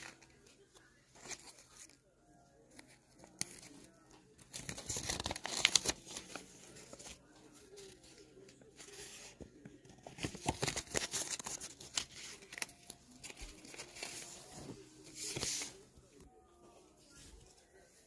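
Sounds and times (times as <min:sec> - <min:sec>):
paper rustling and crinkling: 0:00.0 - 0:02.0, 0:02.7 - 0:16.3.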